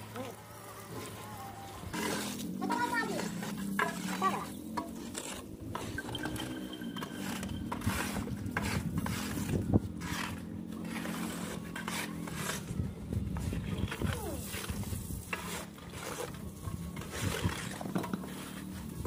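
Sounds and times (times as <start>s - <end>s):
cement slurry scraped across floor: 0.1s - 19.0s.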